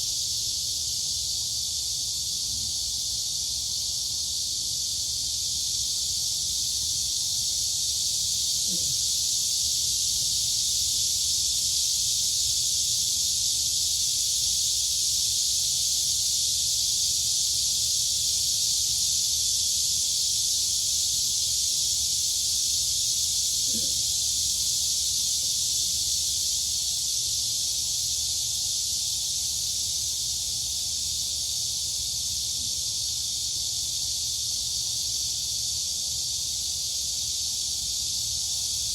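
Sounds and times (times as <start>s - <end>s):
crickets and cicadas droning: 0.0s - 38.9s.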